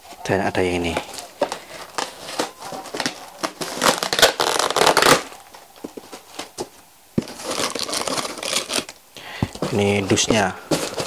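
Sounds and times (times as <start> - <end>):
cardboard flaps scraping and rustling: 0.0 - 8.9, 9.5 - 11.0.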